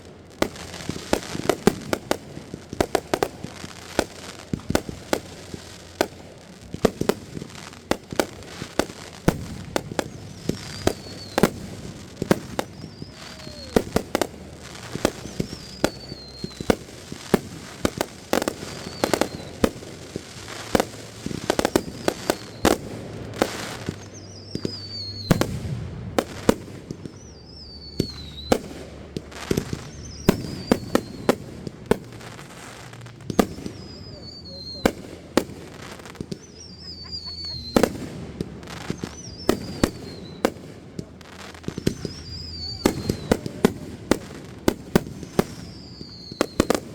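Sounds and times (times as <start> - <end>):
falling firework whistles: 0.0 - 46.9
fireworks bangs and cracks: 0.0 - 46.9.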